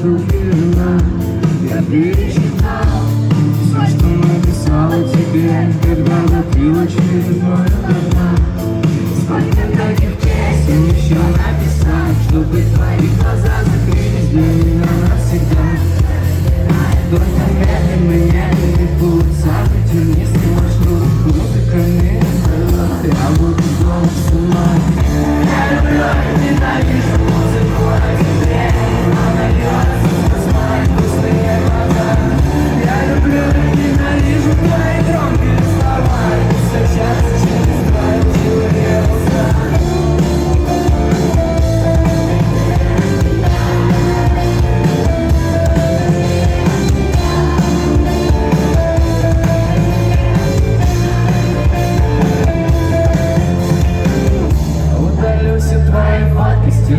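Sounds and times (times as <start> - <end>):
person singing lead vocal: 0.0 - 56.9
rock band playing live: 0.0 - 56.9.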